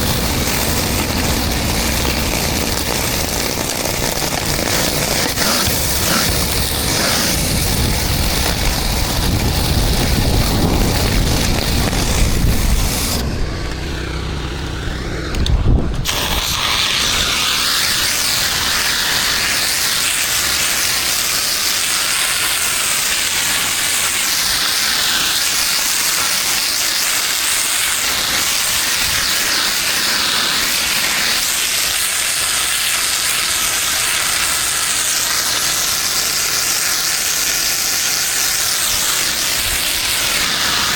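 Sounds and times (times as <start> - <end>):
pressure washer spraying concrete: 0.0 - 40.9.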